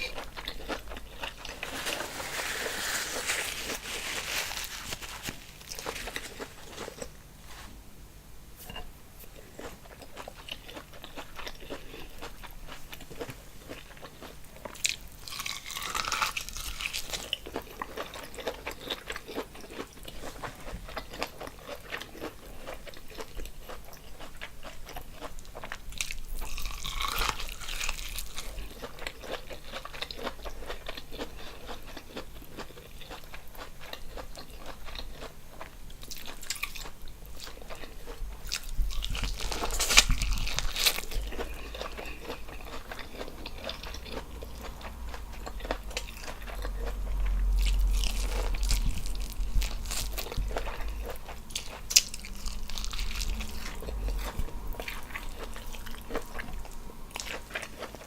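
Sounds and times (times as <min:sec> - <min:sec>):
wet chewing and crunching: 0:00.0 - 0:07.2, 0:09.4 - 0:58.0.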